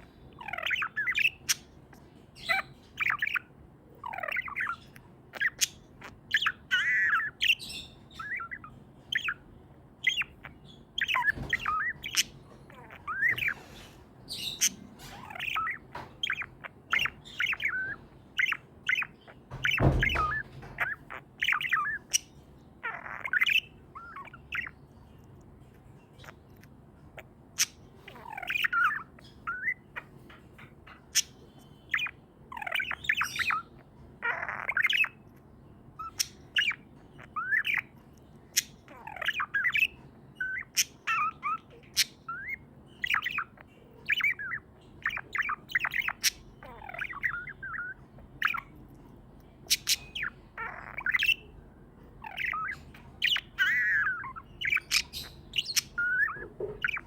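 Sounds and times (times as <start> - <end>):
budgerigar chirping and squawking: 0.0 - 57.0.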